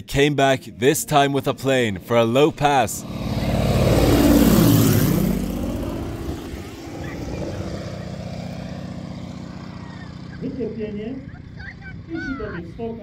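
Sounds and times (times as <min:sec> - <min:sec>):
propeller plane engine drone: 0:01.1 - 0:13.0.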